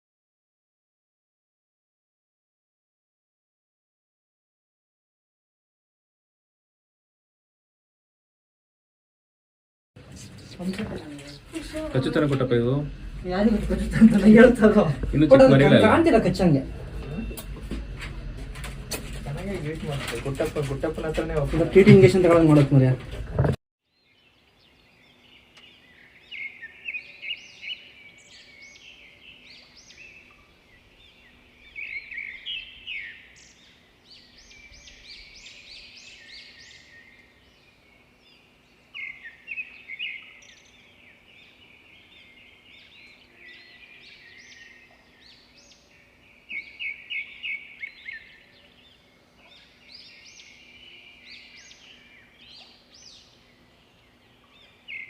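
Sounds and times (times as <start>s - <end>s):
songbirds chirping and trilling: 10.0s - 55.0s.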